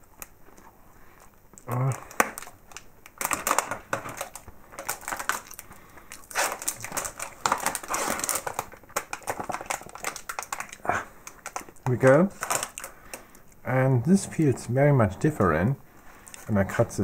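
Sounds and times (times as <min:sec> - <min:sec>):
plastic pack crinkling: 0:00.0 - 0:13.6, 0:16.0 - 0:17.0.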